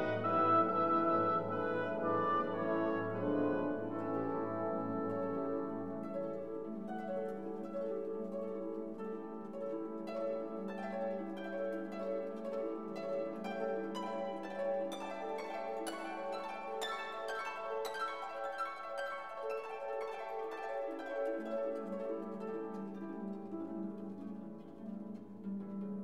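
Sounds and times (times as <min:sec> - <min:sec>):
plucked harp-like notes: 0:00.0 - 0:26.0.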